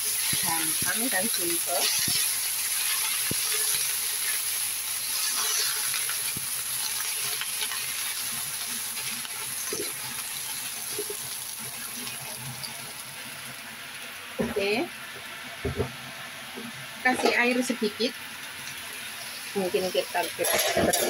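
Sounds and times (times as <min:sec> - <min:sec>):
greens sizzling in hot oil: 0:00.0 - 0:21.0.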